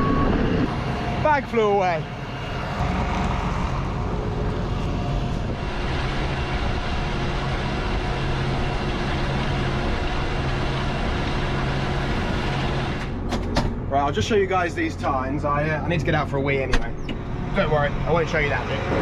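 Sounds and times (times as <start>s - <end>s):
tractor diesel engine running: 0.0s - 15.2s
low hum: 0.0s - 19.0s.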